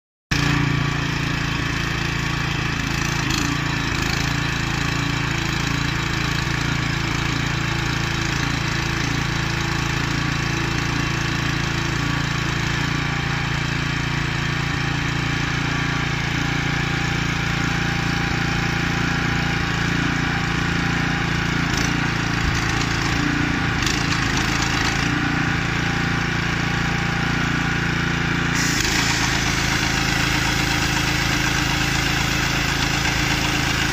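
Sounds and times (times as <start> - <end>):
small petrol engine running: 0.3 - 33.9.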